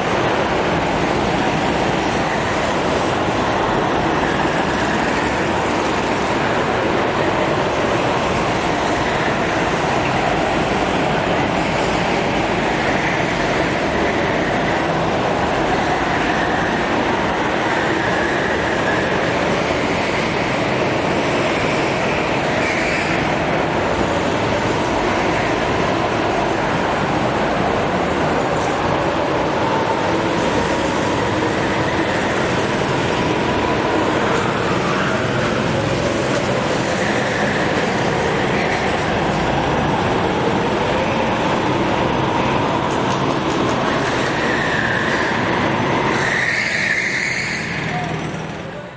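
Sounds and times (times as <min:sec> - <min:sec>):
go-kart engines droning: 0:00.0 - 0:48.9.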